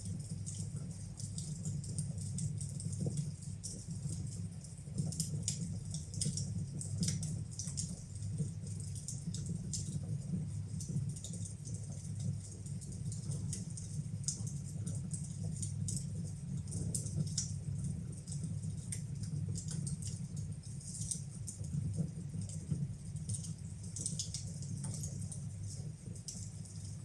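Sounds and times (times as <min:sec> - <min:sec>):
fire low rumble: 0:00.0 - 0:27.0
fire snapping and crackling: 0:00.0 - 0:27.0.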